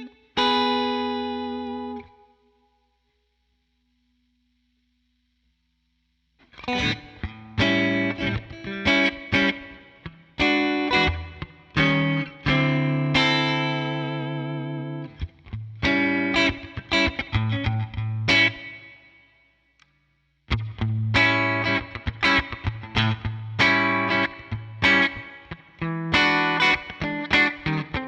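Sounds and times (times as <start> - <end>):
clean electric guitar picking: 0.0 - 2.6, 6.4 - 19.2, 20.5 - 28.0.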